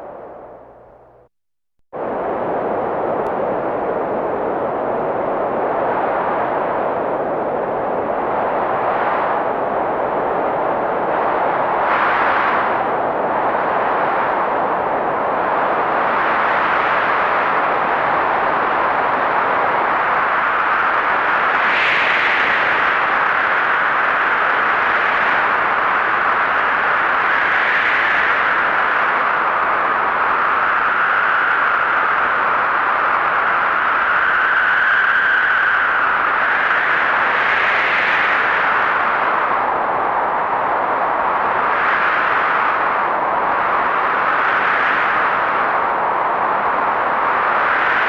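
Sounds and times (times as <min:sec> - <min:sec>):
blizzard wind rushing: 0:00.0 - 0:01.2, 0:02.0 - 0:48.0.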